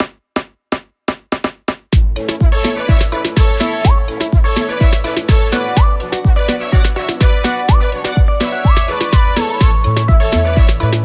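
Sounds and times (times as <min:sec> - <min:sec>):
dance music with bass kicks: 0:00.0 - 0:11.0.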